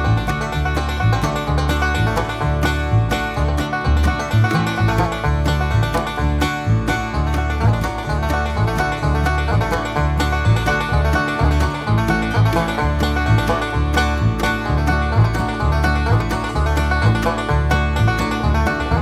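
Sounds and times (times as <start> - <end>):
bluegrass tune: 0.0 - 19.0
guitar: 0.0 - 19.0
plucked banjo: 0.0 - 19.0
repeating bass line: 0.0 - 19.0.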